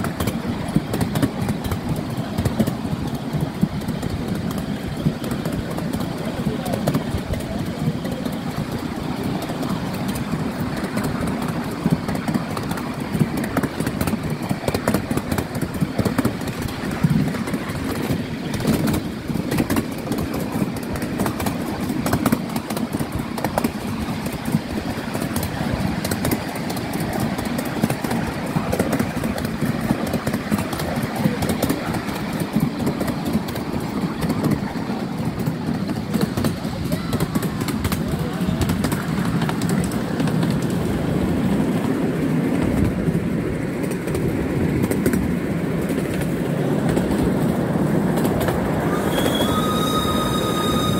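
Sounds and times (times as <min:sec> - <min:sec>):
miniature train rumbling on track: 0:00.0 - 0:50.9
wheels clicking and rattling on rails: 0:00.0 - 0:50.9.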